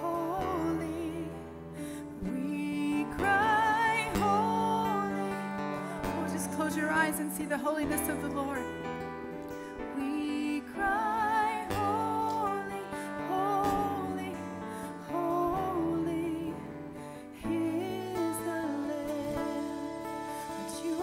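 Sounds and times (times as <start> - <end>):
woman singing worship song: 0.0 - 9.0, 9.6 - 21.0
acoustic guitar: 0.0 - 21.0.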